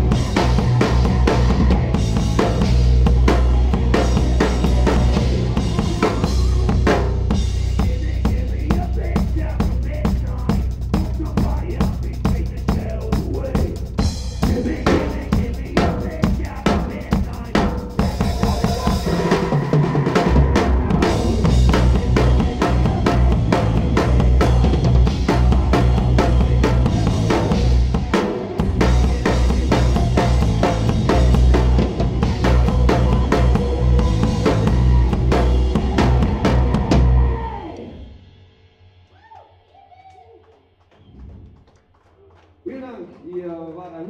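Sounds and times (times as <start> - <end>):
live band playing: 0.0 - 38.0.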